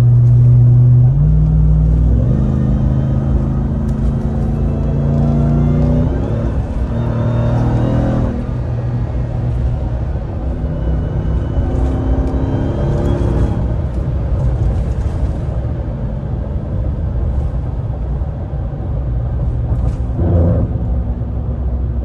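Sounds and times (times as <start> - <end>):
road rumble: 0.0 - 22.0
truck engine drone: 0.0 - 22.0.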